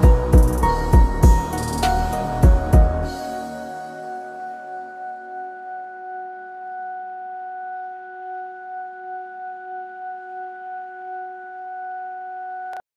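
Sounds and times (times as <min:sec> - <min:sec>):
sustained bell-like synth note: 0:00.0 - 0:12.8.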